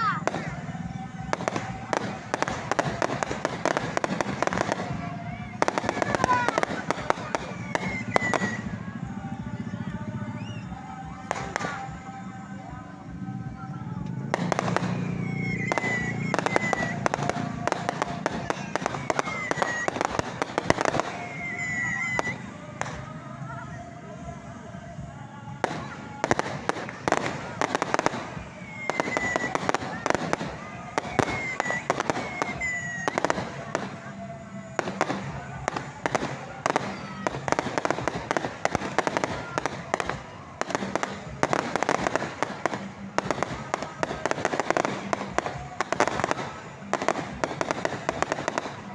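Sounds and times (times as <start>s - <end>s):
fireworks cracking and banging: 0.0s - 48.9s.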